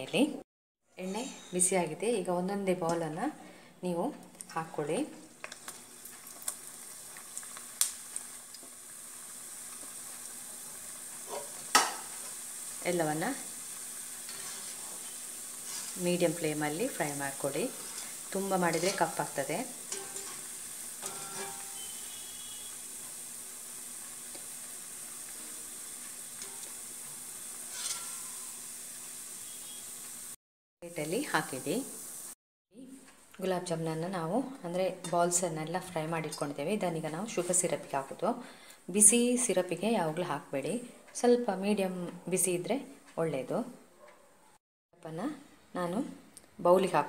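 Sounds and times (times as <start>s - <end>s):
oil sizzling and bubbling: 2.4s - 40.6s.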